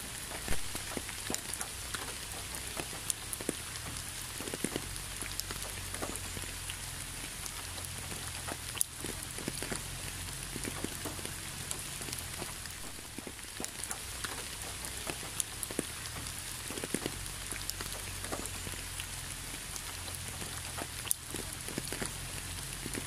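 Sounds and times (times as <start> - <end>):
close raindrops striking: 0.0 - 23.0
steady rain hiss: 0.0 - 23.0.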